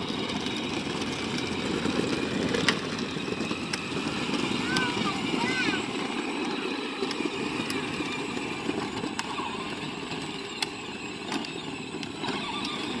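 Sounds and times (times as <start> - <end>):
plastic wheels rolling on asphalt: 0.0 - 13.0.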